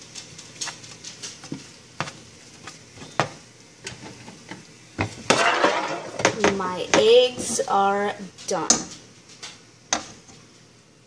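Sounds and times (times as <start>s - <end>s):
eggs sizzling in a frying pan: 0.0s - 11.0s.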